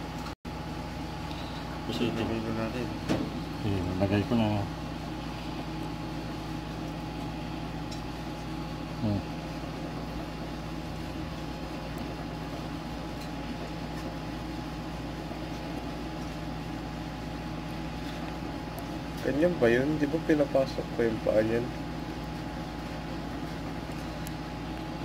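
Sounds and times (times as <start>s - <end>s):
appliance humming: 0.0s - 25.0s.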